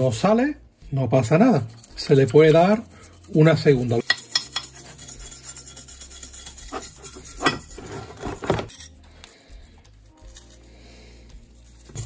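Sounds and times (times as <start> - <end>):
brush scrubbing metal: 1.2 - 12.0.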